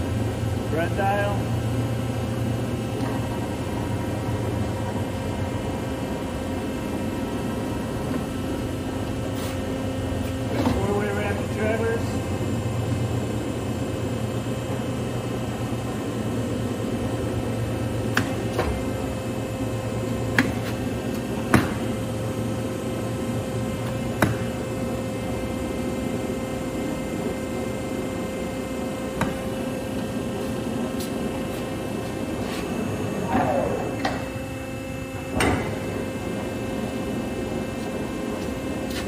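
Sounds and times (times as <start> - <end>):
lathe motor humming: 1.4 - 39.0.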